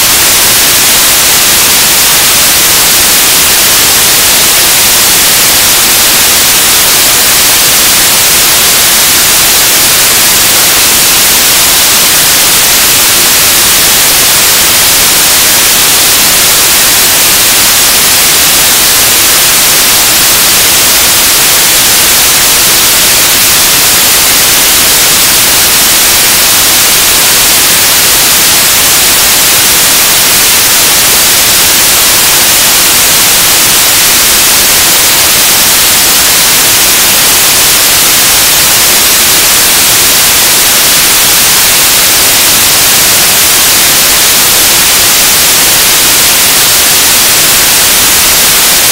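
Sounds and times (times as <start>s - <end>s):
loud static hiss: 0.0s - 48.9s.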